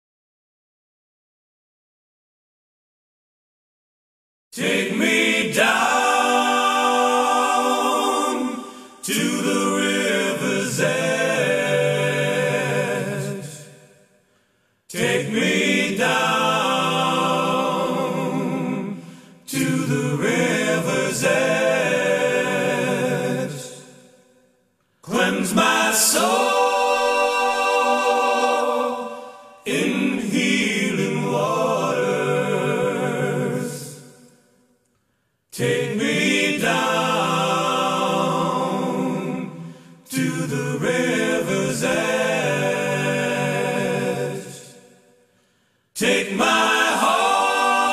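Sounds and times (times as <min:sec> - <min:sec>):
voices singing in harmony: 0:04.5 - 0:47.9.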